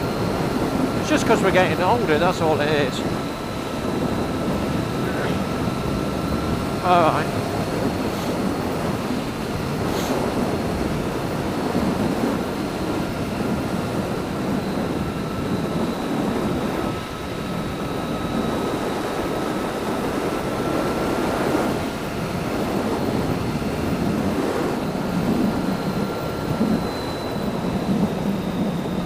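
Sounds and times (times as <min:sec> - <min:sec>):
faint thin whine: 0:00.0 - 0:29.0
motorcycle engine and road noise: 0:00.0 - 0:29.0
wind rush on microphone: 0:00.0 - 0:29.0.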